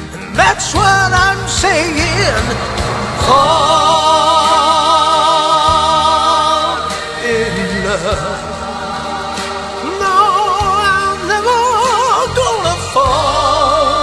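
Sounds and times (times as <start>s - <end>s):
backing music: 0.0s - 14.0s
person singing with vibrato: 0.0s - 14.0s.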